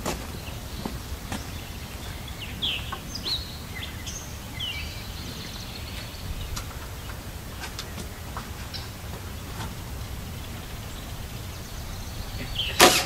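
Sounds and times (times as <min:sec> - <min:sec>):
low outdoor rumble: 0:00.0 - 0:13.0
bird chirping: 0:00.1 - 0:13.0.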